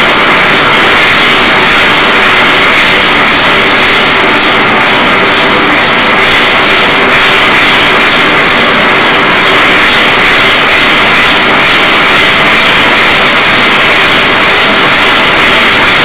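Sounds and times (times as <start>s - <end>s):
gas torch flame rushing: 0.0s - 16.0s.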